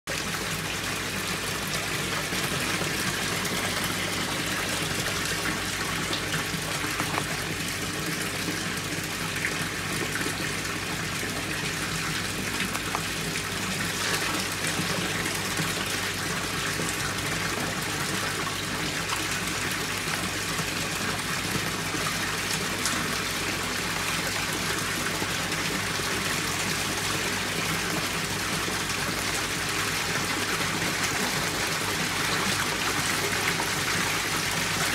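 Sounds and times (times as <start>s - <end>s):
pump hum: 0.1s - 34.9s
water splashing and gushing: 0.1s - 34.9s.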